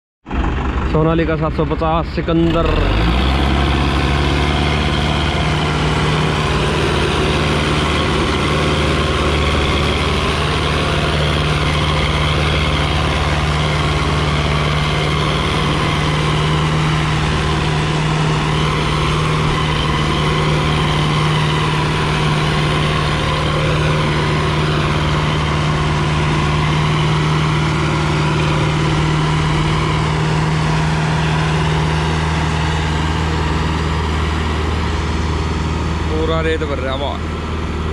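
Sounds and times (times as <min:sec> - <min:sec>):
tractor diesel engine under load: 0:00.2 - 0:37.9.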